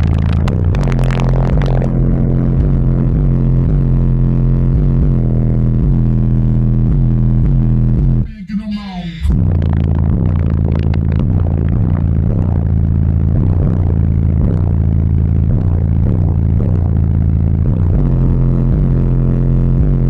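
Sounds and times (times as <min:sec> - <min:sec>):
loud bass-heavy music: 0:00.0 - 0:20.0.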